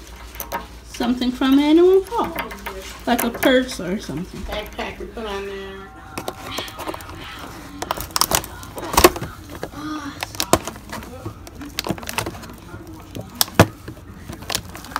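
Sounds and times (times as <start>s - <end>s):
plastic container crackling: 0.0s - 14.9s.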